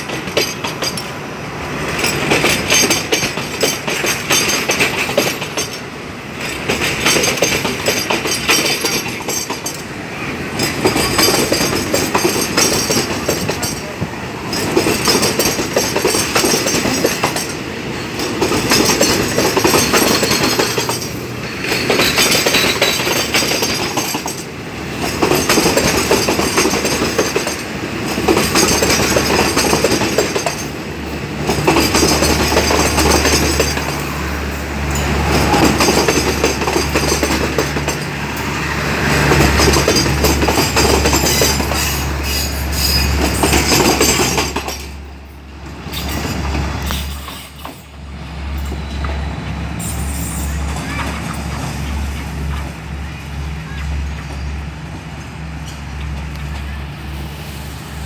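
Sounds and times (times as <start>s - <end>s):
train wheels clacking over joints: 0.0s - 52.9s.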